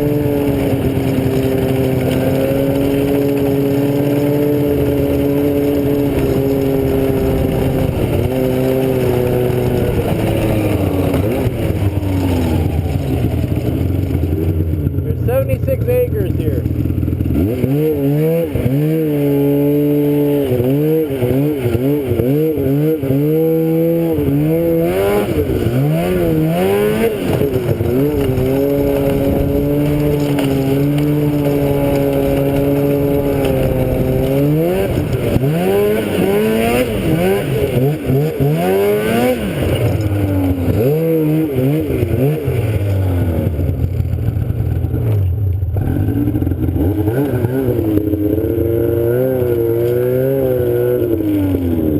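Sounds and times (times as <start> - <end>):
small vehicle engine revving: 0.0 - 51.9.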